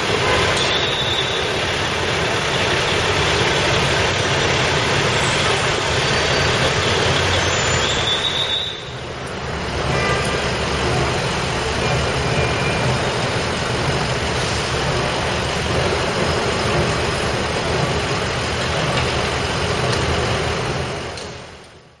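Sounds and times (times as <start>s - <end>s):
engines idling low rumble: 0.0s - 22.0s
street noise: 0.0s - 22.0s.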